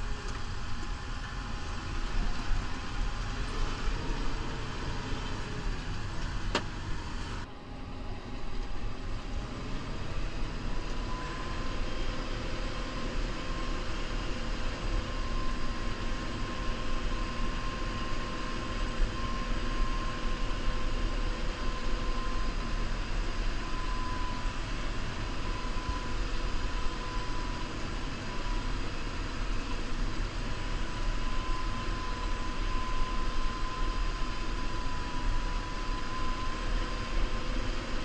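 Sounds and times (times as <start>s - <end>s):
steady whine: 0.0s - 38.0s
tractor diesel engine running: 0.0s - 38.0s.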